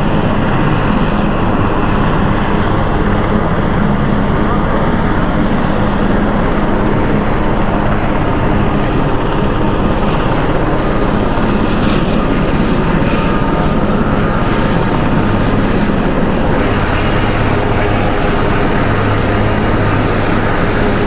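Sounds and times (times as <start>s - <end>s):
helicopter rotor and engine drone: 0.0s - 21.0s.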